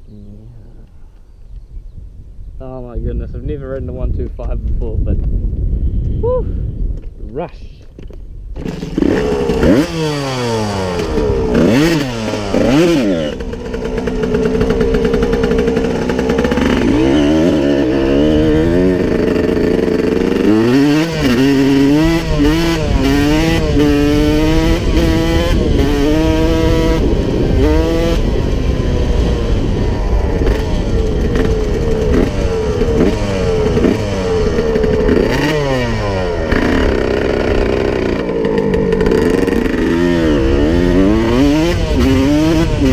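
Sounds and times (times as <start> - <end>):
dirt bike engine revving: 8.5 - 42.9.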